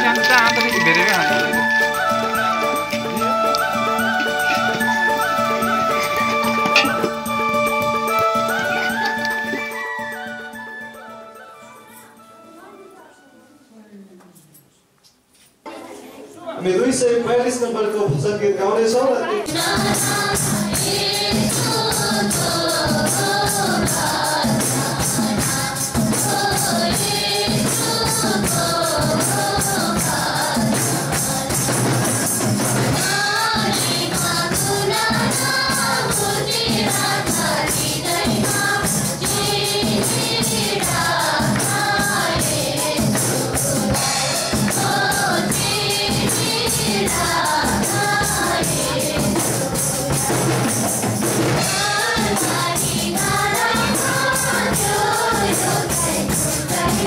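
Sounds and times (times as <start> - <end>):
women singing a hymn: 0.0 - 10.0, 19.2 - 51.0, 51.6 - 57.0
rhythmic percussion beat: 0.0 - 11.4, 19.5 - 57.0.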